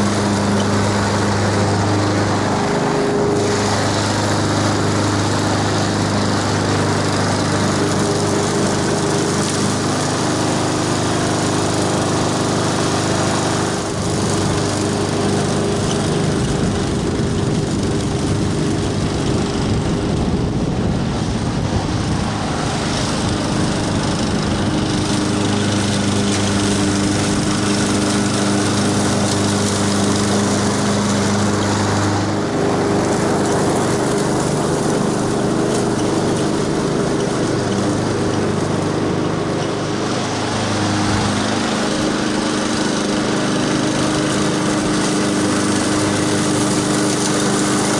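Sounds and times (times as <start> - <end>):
lawn mower engine running: 0.0 - 47.9.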